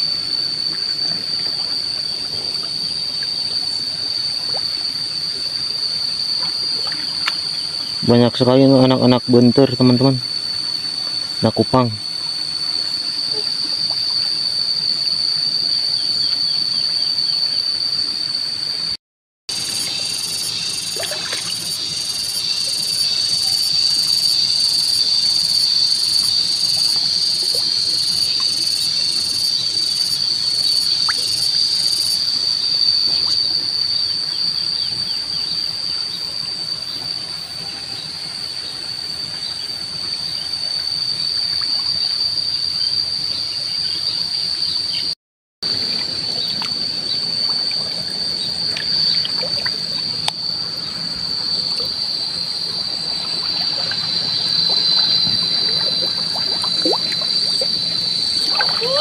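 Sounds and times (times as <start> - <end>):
insects shrilling steadily: 0.0 - 59.0
pulsing high insect call: 0.0 - 59.0.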